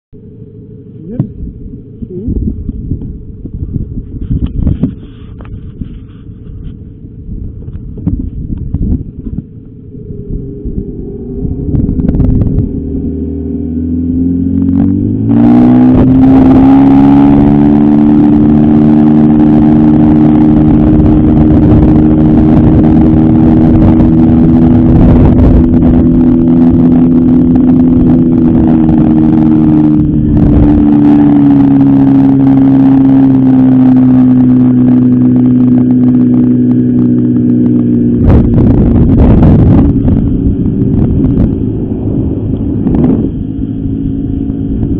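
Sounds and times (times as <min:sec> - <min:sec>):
outboard motor running: 0:00.1 - 0:44.9.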